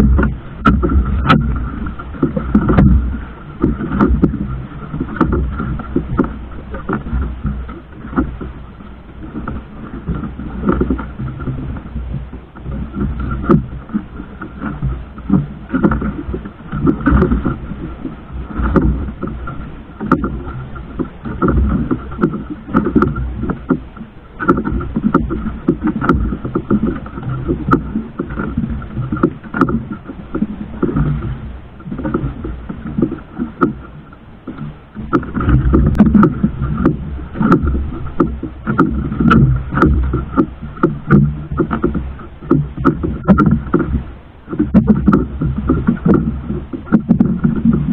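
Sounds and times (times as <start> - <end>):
boat engine rumbling: 0.0 - 47.9.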